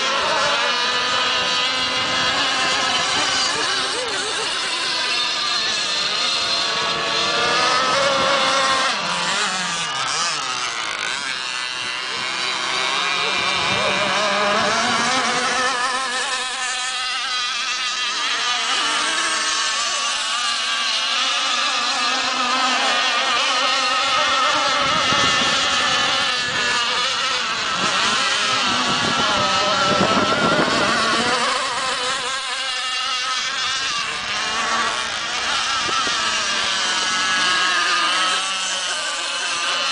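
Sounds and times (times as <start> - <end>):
model boat engines whining: 0.0 - 39.9.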